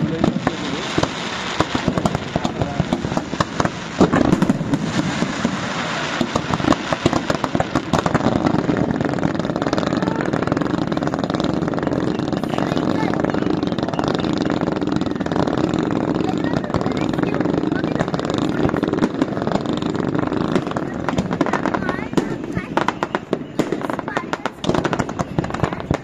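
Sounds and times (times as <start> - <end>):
crowd chatter: 0.0 - 26.0
firework bang: 0.0 - 26.0
fireworks crackling and popping: 0.0 - 26.0.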